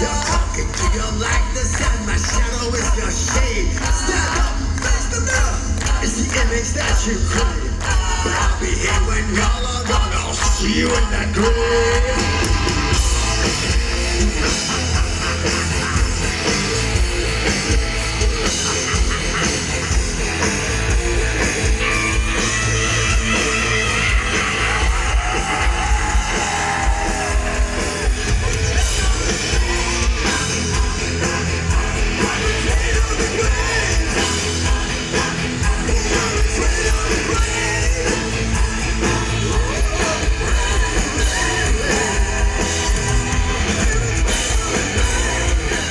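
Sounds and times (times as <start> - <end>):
heavy metal band playing live: 0.0 - 45.9.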